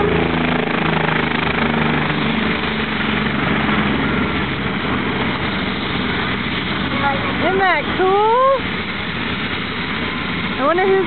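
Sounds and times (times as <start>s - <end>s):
helicopter engine whine: 0.0s - 11.0s.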